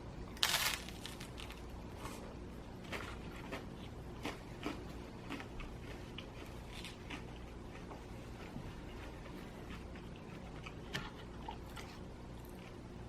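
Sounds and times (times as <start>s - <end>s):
chewing pizza: 0.4s - 13.0s.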